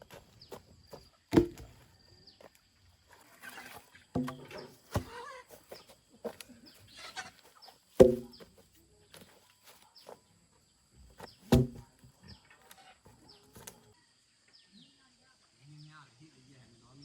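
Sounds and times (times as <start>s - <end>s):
faint high bird chirps: 0.1s - 16.3s.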